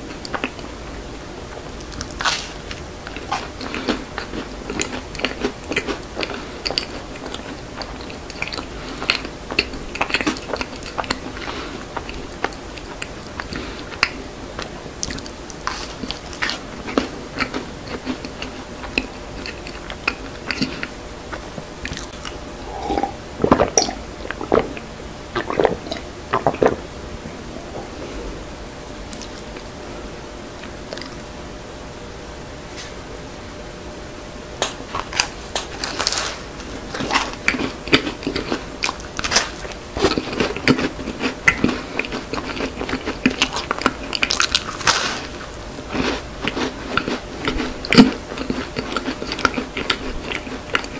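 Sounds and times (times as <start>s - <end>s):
chewing and crunching: 0.0s - 26.9s, 29.1s - 29.7s, 30.6s - 31.3s, 34.6s - 50.9s.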